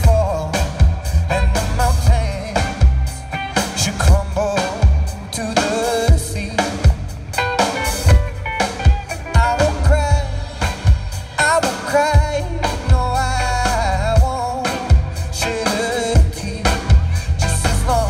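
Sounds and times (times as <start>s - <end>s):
man singing lead vocal: 0.0s - 8.1s, 9.0s - 18.0s
electric guitars: 0.0s - 18.0s.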